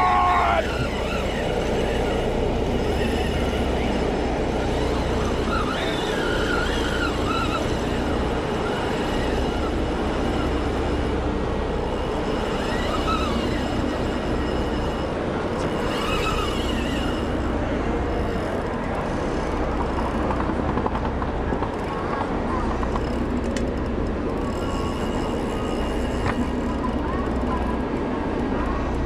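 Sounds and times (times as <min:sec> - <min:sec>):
low machinery drone: 0:00.0 - 0:29.0
thin whining tones: 0:00.0 - 0:29.0
wind: 0:00.0 - 0:29.0.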